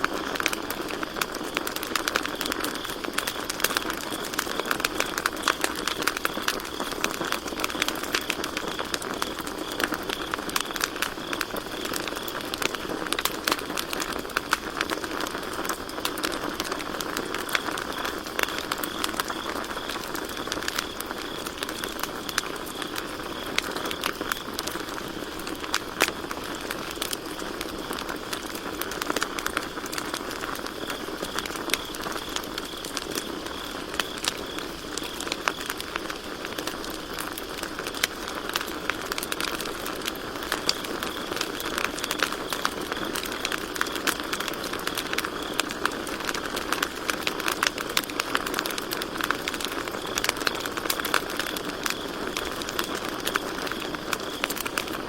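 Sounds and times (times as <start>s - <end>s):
campfire crackling: 0.0s - 55.0s
crickets chirping: 0.0s - 55.0s.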